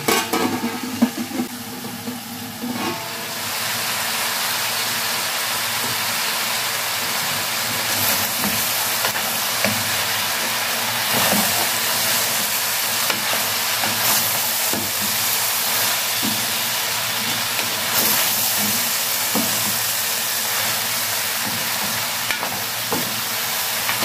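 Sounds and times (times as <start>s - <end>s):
vegetables sizzling in a pot: 0.0s - 24.0s.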